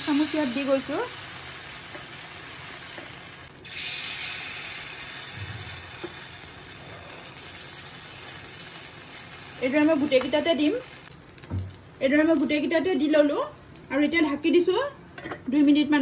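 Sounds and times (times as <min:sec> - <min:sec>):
batter sizzling in a hot pan: 0:00.0 - 0:14.9.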